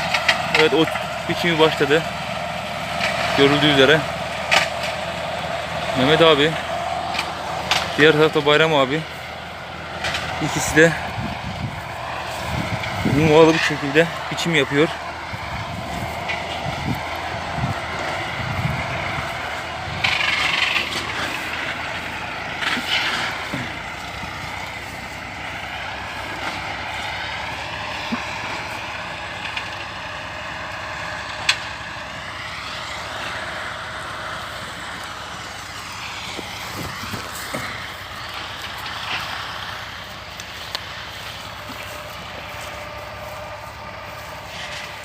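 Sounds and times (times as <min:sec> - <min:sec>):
mowing machine engines: 0:00.0 - 0:45.0.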